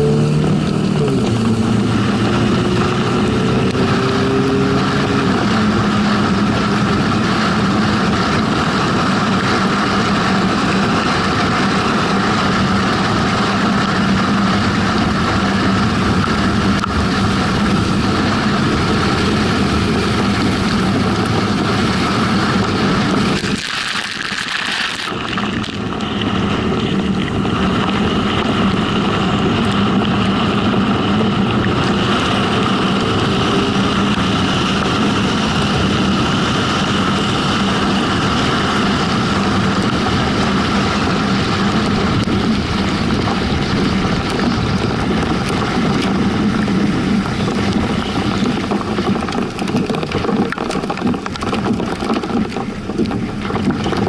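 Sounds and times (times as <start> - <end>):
vehicle engine and road noise: 0.0 - 54.0
wind rushing over microphone: 0.0 - 54.0.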